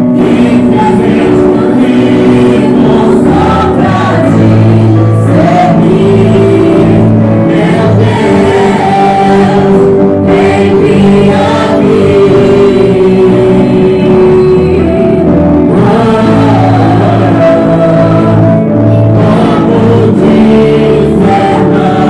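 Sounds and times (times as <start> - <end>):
choir singing gospel song: 0.0 - 22.0
musical accompaniment: 0.0 - 22.0.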